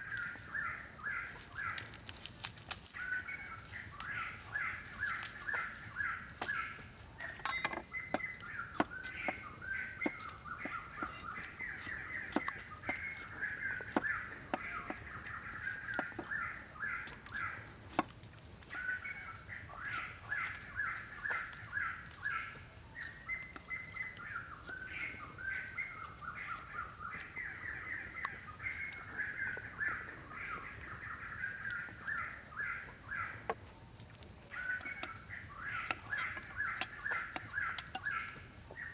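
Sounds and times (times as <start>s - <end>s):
birds calling: 0.0s - 38.9s
high-pitched insect drone: 0.0s - 38.9s.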